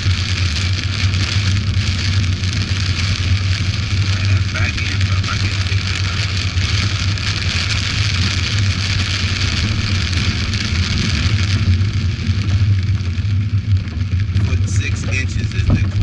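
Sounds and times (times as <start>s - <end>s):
heavy rain on car: 0.0s - 16.0s
low car drone: 0.0s - 16.0s.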